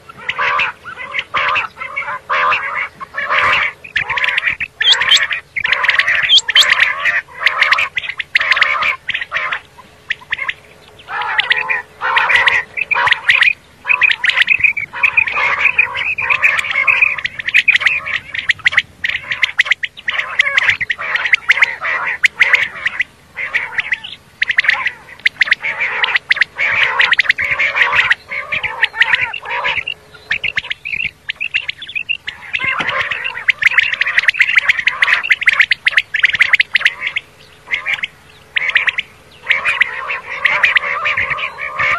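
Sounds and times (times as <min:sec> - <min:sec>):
quail calling: 0:00.0 - 0:41.9.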